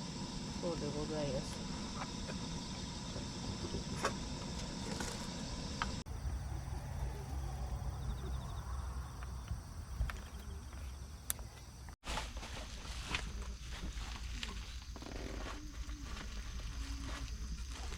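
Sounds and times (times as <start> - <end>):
insects chirping: 0.0 - 17.9.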